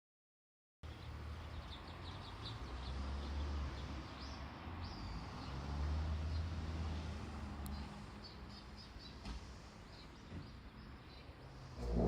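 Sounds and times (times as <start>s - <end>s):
small birds chirping: 0.8s - 7.0s, 7.6s - 12.0s.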